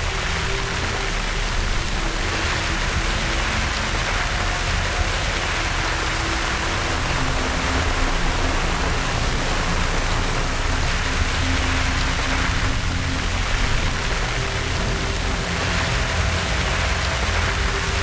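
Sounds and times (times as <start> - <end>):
low rumble: 0.0 - 18.0
steady rain falling: 0.0 - 18.0.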